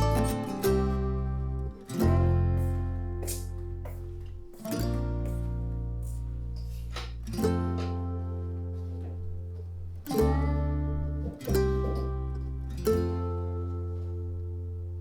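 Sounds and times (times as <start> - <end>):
deep bass: 0.0 - 15.0
strummed plucked-string instrument: 0.0 - 15.0.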